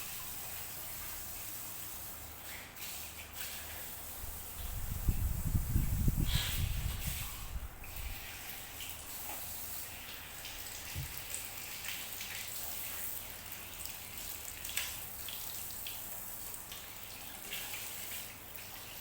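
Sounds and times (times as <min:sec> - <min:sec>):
water pattering and dripping: 0:00.0 - 0:19.0.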